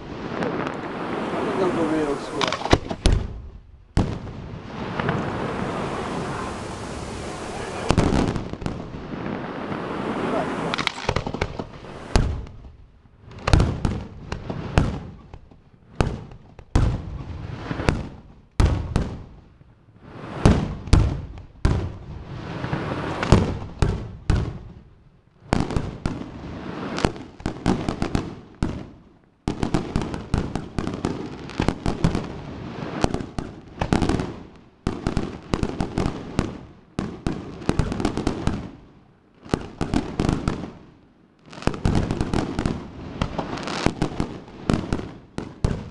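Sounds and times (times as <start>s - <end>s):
fireworks bursting with loud bangs: 0.0s - 45.9s.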